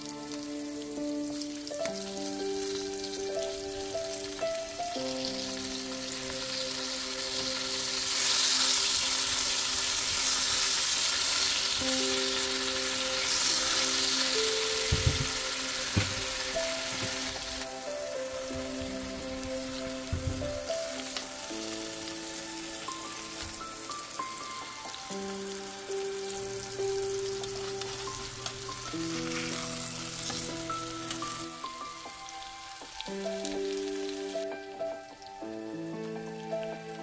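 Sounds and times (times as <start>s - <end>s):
fish sizzling in butter: 0.0s - 37.0s.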